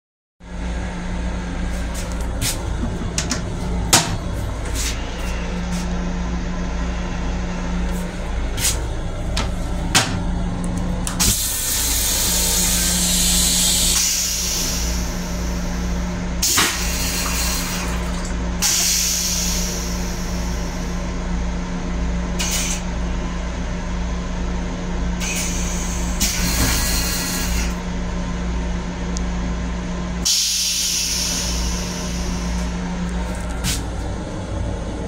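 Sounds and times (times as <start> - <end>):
railcar rumble and hum: 0.4 - 35.0.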